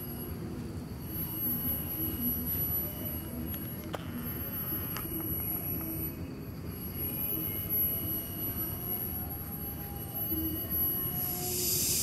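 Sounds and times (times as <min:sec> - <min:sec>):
faint high-pitched tones: 0:00.0 - 0:12.0.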